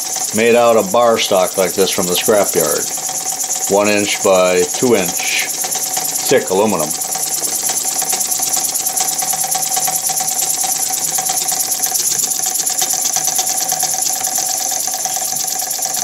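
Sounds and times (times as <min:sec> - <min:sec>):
model engine chuffing: 0:00.0 - 0:16.0.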